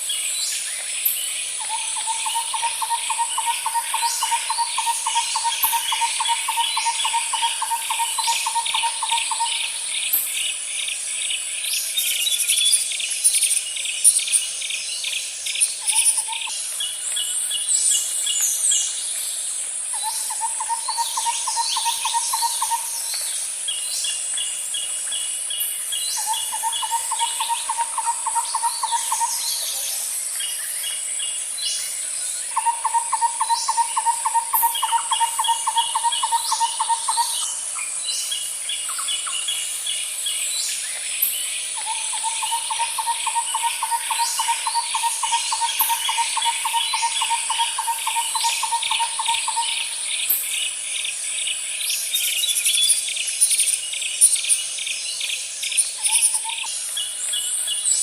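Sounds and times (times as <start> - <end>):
birds calling and chirping: 0.0 - 58.0
high-pitched insect drone: 0.0 - 58.0.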